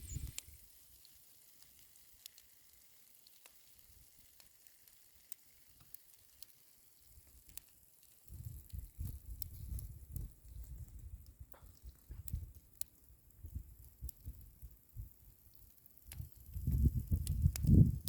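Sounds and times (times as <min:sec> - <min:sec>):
clay crackling: 0:00.0 - 0:17.8.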